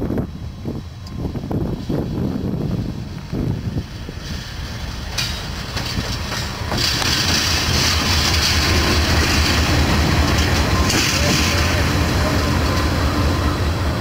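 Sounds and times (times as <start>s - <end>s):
diesel locomotive passing: 0.0s - 14.0s.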